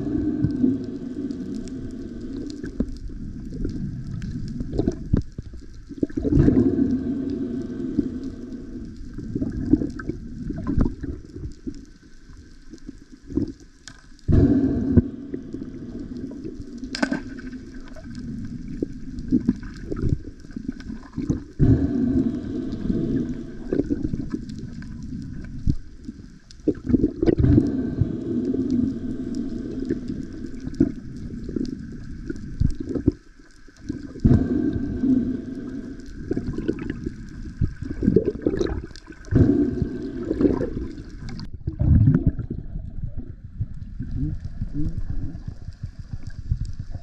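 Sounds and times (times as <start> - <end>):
muffled underwater gurgling: 0.0 - 47.0.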